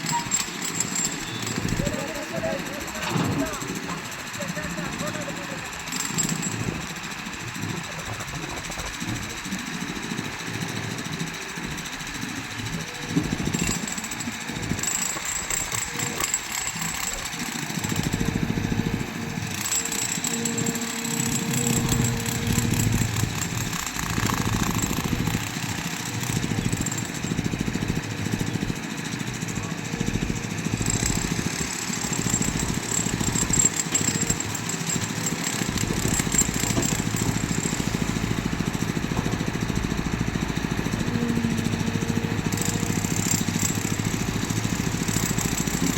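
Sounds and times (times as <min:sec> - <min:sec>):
heavy machinery diesel engine: 0:00.0 - 0:45.9.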